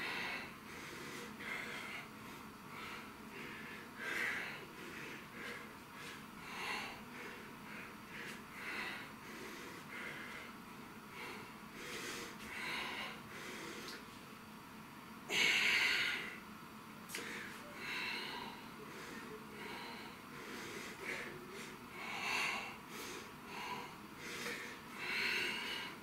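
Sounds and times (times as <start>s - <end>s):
man breathing heavily: 0.0s - 14.2s, 15.2s - 16.5s, 17.1s - 26.0s.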